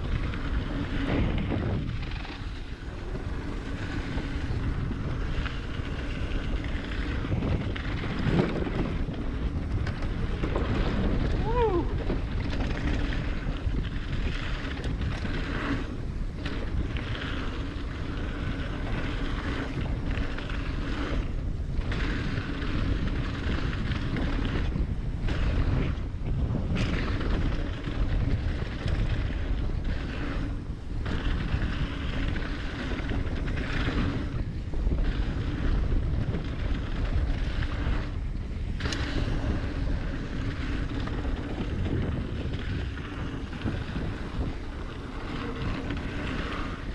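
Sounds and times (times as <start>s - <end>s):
bike rattling over bumps: 0.0s - 46.9s
bike tyres rolling on dirt: 0.0s - 46.9s
wind rushing over microphone: 0.0s - 46.9s.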